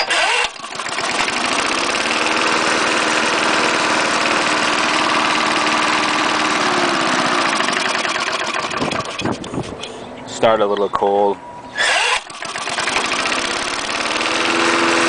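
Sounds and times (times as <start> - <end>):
lawnmower engine running: 0.0 - 9.8, 11.8 - 15.0.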